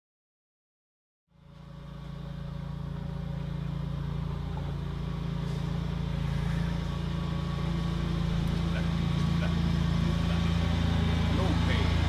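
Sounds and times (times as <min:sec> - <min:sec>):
motorcycle engine running: 0:01.3 - 0:12.0.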